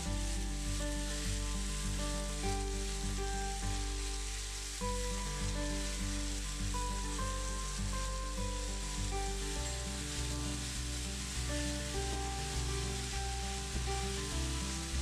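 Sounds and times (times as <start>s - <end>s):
background music with steady beat: 0.0s - 15.0s
chicken and onions sizzling in a pan: 0.0s - 15.0s.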